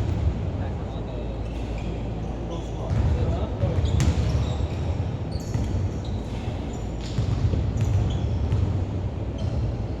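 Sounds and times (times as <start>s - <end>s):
low rumble of a hall: 0.0s - 10.0s.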